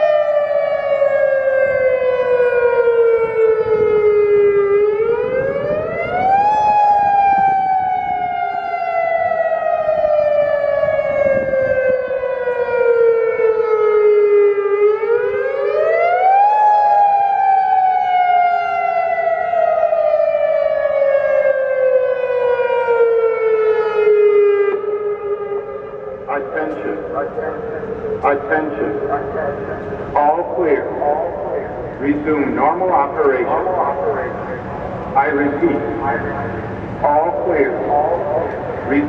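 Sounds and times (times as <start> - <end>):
rising and falling warning siren: 0.0 - 39.0.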